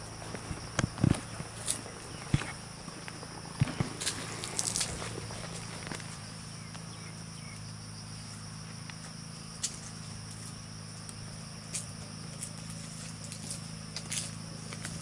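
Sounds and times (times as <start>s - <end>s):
high-pitched insect chorus: 0.0s - 15.0s
low steady hum: 0.0s - 15.0s.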